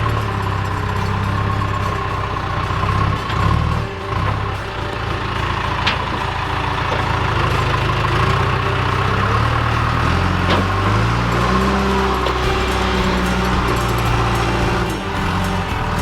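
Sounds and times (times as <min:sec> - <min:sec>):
backhoe loader engine: 0:00.0 - 0:16.0.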